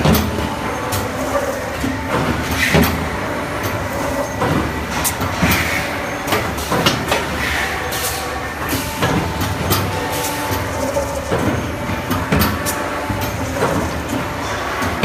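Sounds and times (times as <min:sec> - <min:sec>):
factory machinery rumble: 0:00.0 - 0:15.0.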